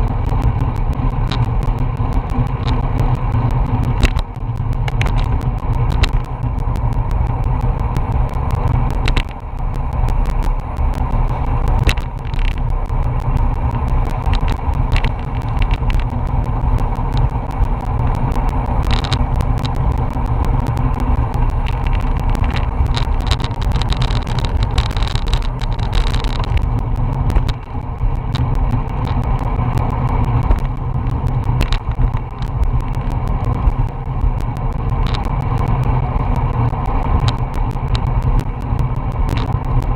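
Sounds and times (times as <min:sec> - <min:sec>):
tyres humming on asphalt: 0:00.0 - 0:39.9
wind rushing over microphone: 0:00.0 - 0:39.9.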